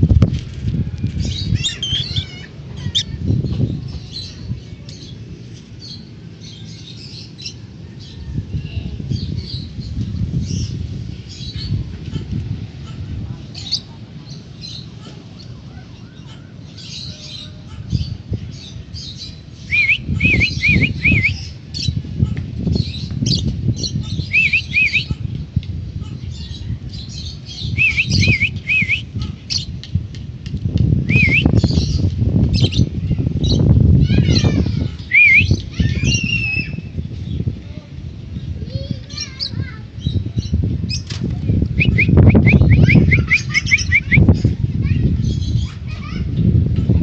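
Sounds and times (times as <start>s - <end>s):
lovebirds chirping and squawking: 0.8s - 37.6s, 38.4s - 47.0s.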